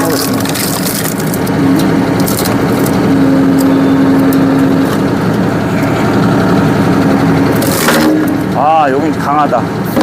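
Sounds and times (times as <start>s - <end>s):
steady humming tone: 0.0s - 10.0s
tractor engine running: 0.0s - 10.0s.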